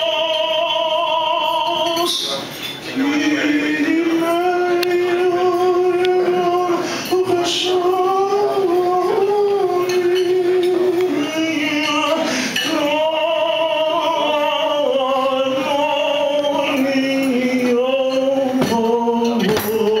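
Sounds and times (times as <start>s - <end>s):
man singing long notes: 0.0s - 2.2s, 2.9s - 20.0s.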